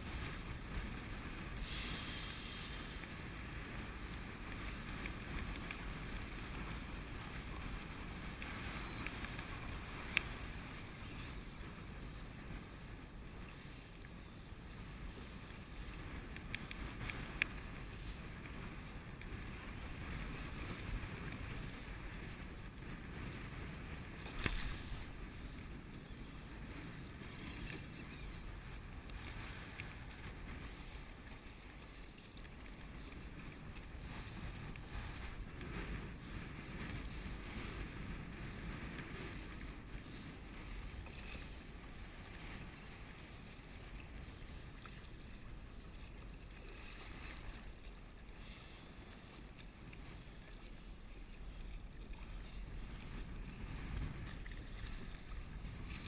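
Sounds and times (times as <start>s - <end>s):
water lapping against kayak hull: 0.0s - 56.0s
wind on microphone: 0.0s - 56.0s.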